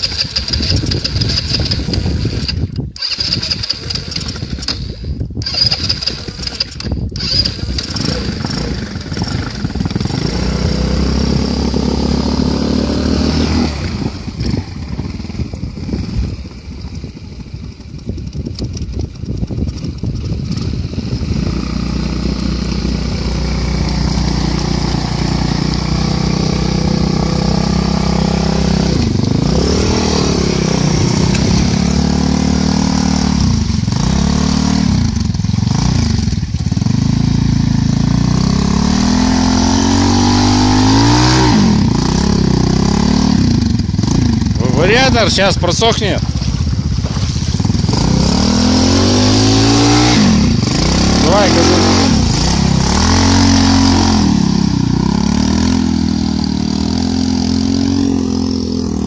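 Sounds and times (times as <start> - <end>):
motorcycle engine starting and idling: 0.0 - 59.0.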